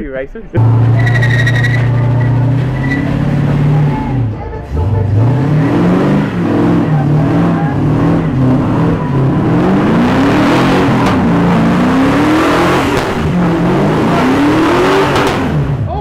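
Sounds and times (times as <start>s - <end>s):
car engine revving hard: 0.6s - 15.9s.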